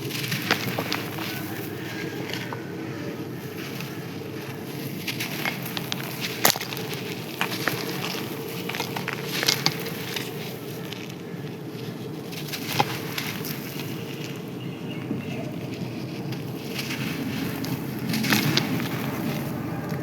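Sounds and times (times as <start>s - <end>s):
low background rush: 0.0s - 20.0s
sand and clay crunching: 0.0s - 20.0s.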